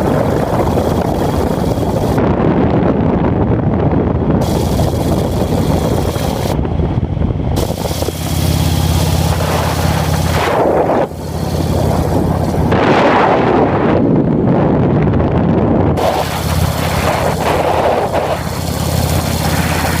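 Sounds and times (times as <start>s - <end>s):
motorcycle engine running: 0.0s - 13.0s, 15.8s - 20.0s
wind noise on microphone: 0.0s - 20.0s.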